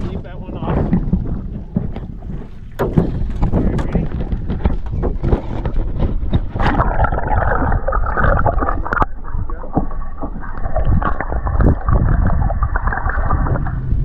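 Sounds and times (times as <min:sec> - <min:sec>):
water gurgling against boat: 0:00.0 - 0:14.0
wind rumbling on microphone: 0:00.0 - 0:14.0.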